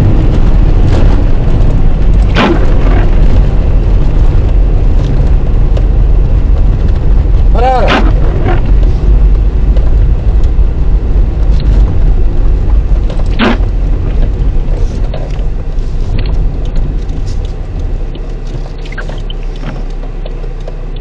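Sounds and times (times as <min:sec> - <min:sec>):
car driving on snowy road: 0:00.0 - 0:21.0
windscreen wiper swish: 0:00.0 - 0:21.0.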